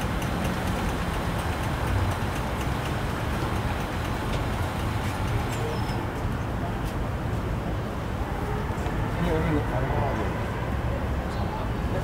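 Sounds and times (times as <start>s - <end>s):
street market background noise: 0.0s - 12.0s.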